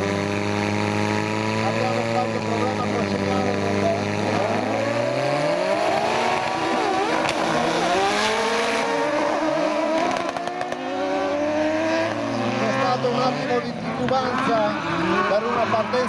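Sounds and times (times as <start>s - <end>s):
racing car engines revving: 0.0s - 16.0s.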